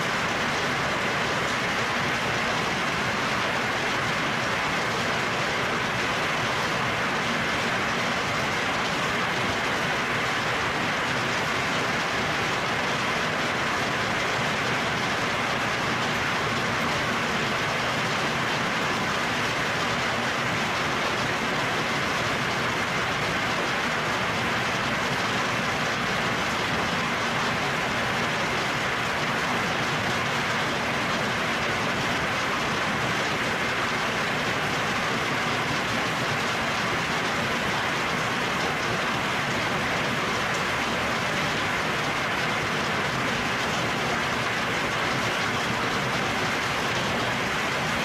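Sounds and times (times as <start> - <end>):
hail and heavy rain on foliage: 0.0 - 48.0.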